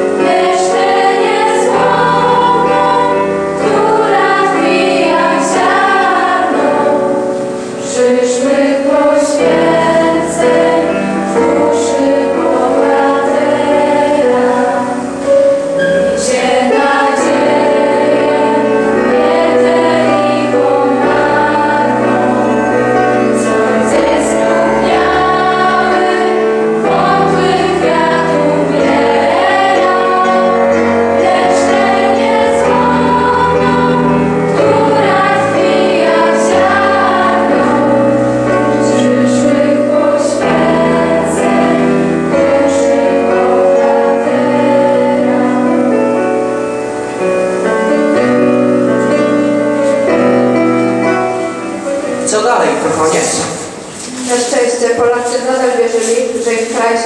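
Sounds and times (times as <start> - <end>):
choir singing: 0.0 - 55.4.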